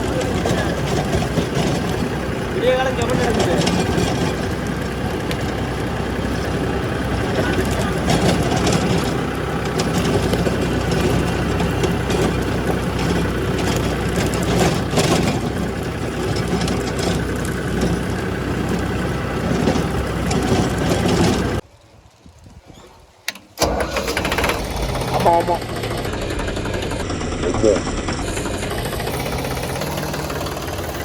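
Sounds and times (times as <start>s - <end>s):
tractor engine idling: 0.0s - 22.0s, 23.0s - 31.0s.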